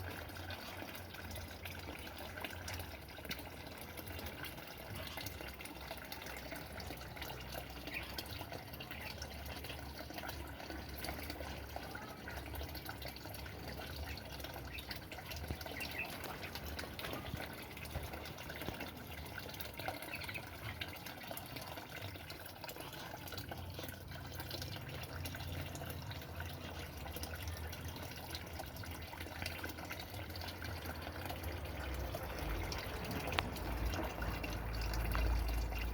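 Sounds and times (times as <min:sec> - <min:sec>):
water running and trickling: 0:00.0 - 0:35.9.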